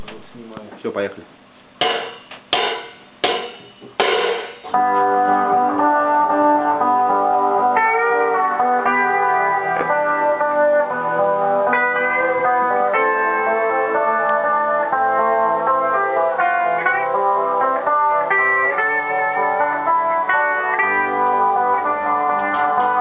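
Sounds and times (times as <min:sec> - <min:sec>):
rock band instrumental: 0:01.8 - 0:23.0.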